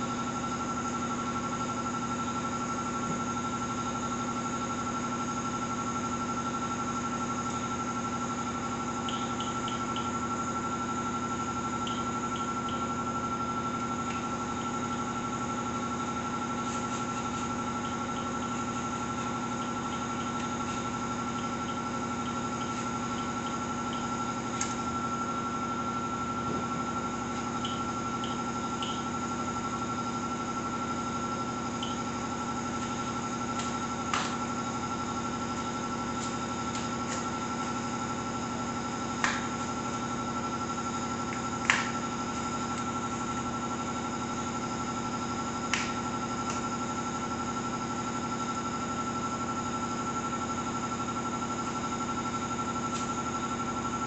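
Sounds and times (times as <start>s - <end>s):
mechanical room hum: 0.0s - 54.0s.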